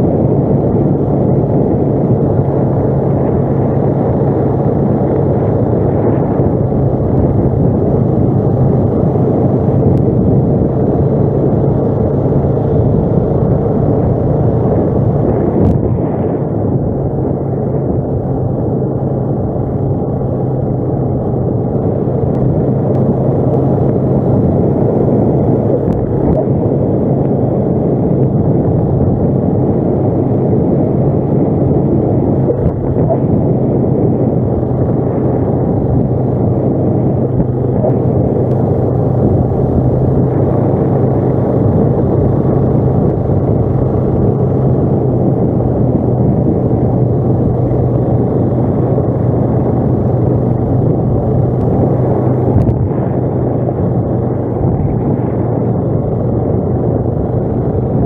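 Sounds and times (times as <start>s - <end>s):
atv engine running: 0.0s - 58.0s
wind on microphone: 0.0s - 58.0s.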